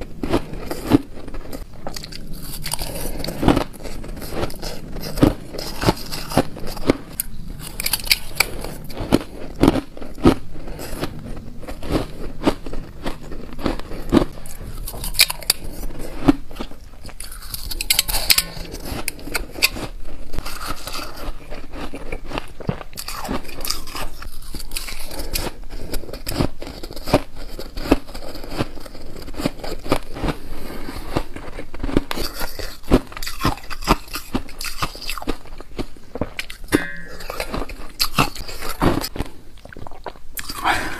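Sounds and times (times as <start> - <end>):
ice crunching between teeth: 0.0 - 40.9.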